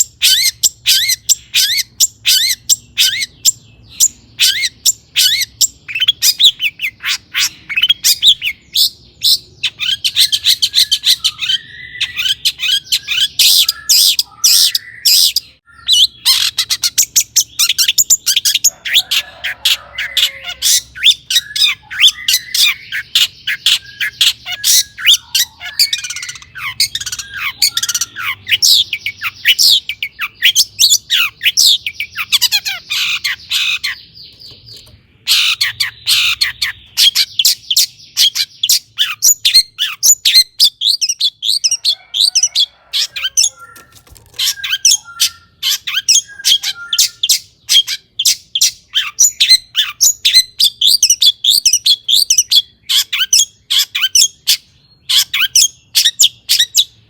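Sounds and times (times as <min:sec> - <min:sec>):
bird harsh squawks: 0:00.0 - 0:34.5, 0:35.2 - 0:56.9
bird chattering song: 0:00.0 - 0:57.0.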